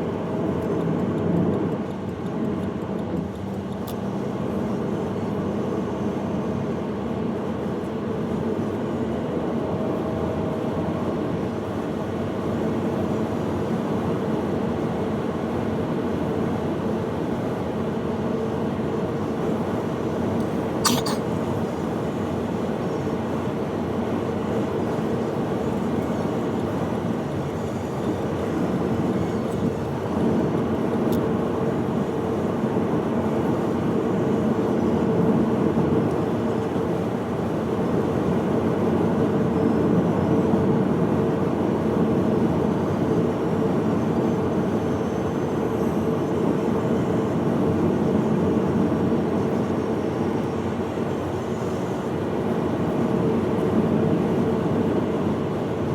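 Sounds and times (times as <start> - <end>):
moving vehicle running noise: 0.0 - 55.9.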